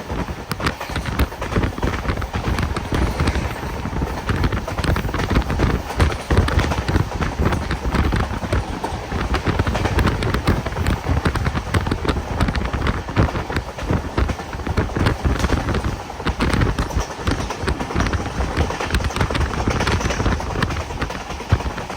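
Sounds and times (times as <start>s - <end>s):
train rumbling: 0.0s - 21.9s
wheels clattering over track: 0.0s - 21.9s.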